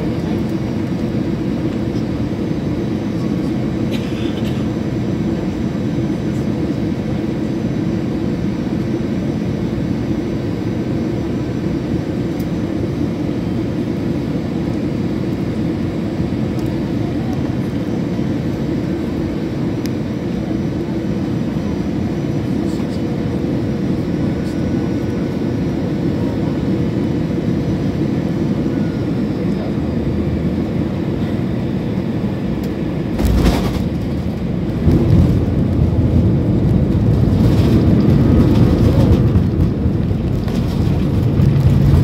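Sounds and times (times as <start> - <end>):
jet engine cabin rumble: 0.0 - 42.0.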